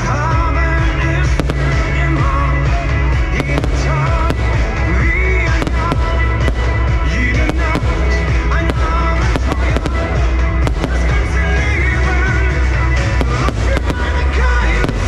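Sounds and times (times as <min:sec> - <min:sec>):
fireworks bangs and crackles: 0:00.0 - 0:15.0
loud pop music with singing: 0:00.0 - 0:15.0.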